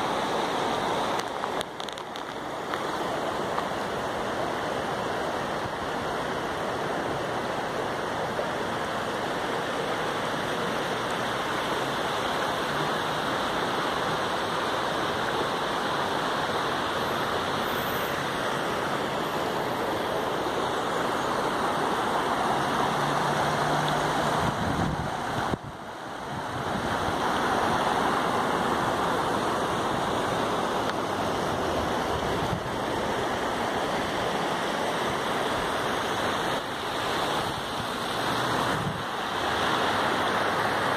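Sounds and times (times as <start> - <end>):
river water over rocks: 0.0 - 40.9.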